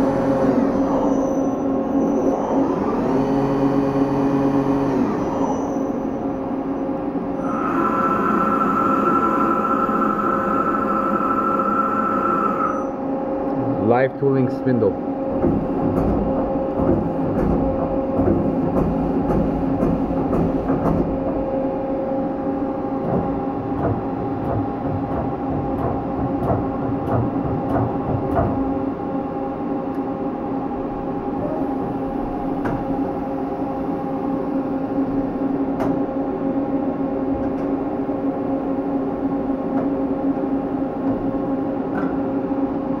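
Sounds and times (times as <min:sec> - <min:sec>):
lathe machine hum: 0:00.0 - 0:43.0.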